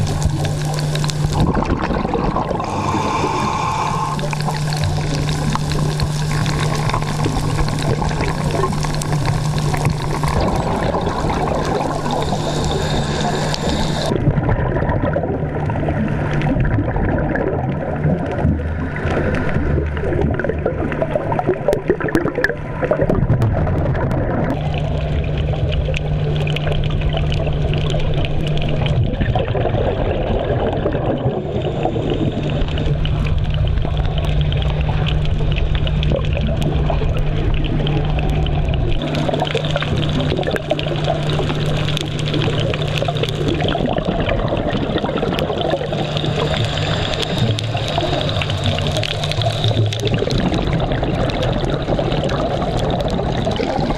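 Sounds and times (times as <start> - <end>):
bubbling surges: 0.0 - 53.9
low steady hum: 0.0 - 53.9
underwater water noise: 0.0 - 53.9.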